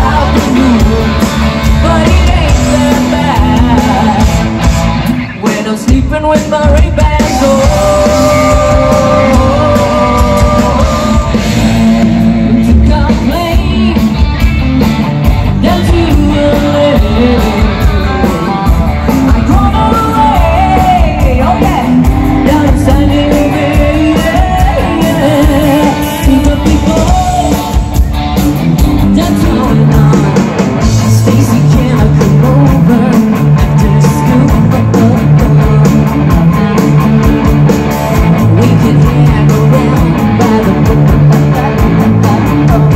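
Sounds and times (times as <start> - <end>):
lead vocalist singing: 0.0 - 14.5, 15.4 - 42.9
live rock band playing: 0.0 - 42.9.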